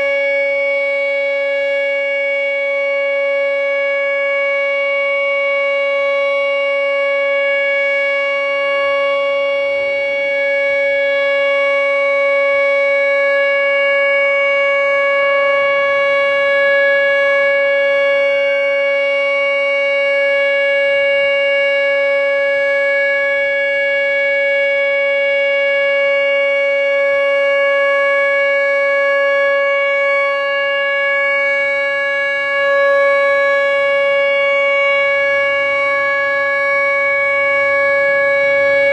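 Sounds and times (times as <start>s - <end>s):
electronic siren steady tone: 0.0s - 38.9s.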